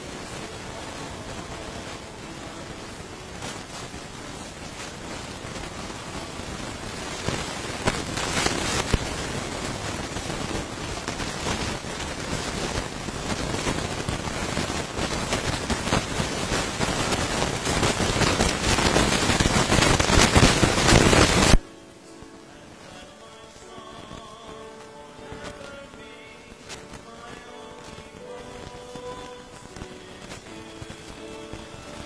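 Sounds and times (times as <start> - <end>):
dense crackling with clicks: 0.0 - 32.0.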